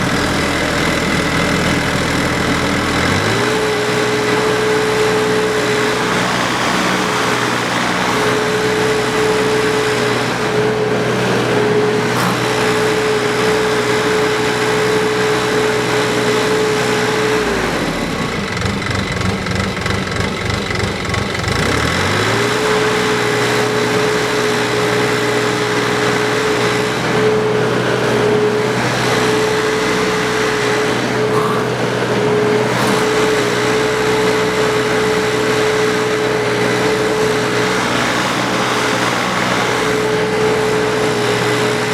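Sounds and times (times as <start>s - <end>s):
excavator diesel engine revving: 0.0s - 41.9s.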